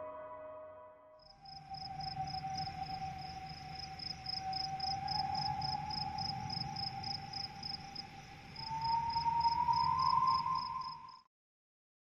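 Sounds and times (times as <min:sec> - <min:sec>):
rising sustained tone: 0:00.0 - 0:11.2
cricket chirping: 0:01.2 - 0:11.3.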